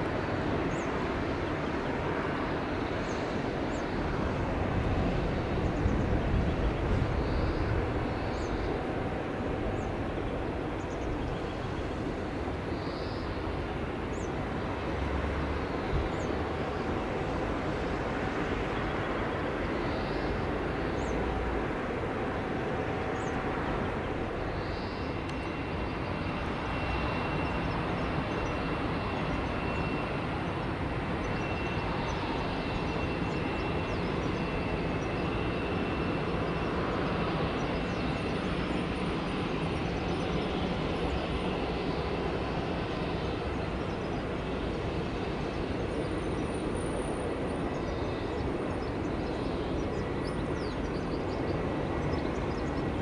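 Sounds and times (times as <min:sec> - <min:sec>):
faint high whine: 0:00.0 - 0:53.0
jet engines rumbling: 0:00.0 - 0:53.0.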